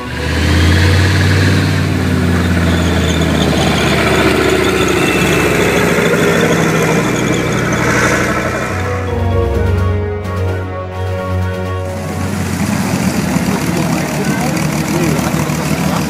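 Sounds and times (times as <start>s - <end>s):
high squeal of tracks: 0.0s - 16.0s
tank engine running: 0.0s - 16.0s.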